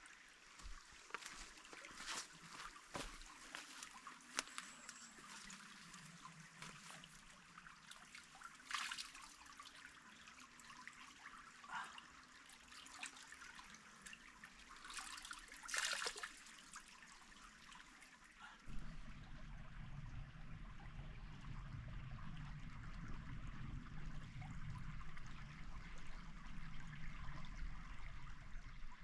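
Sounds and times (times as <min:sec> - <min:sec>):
stream trickling: 0:00.0 - 0:29.0.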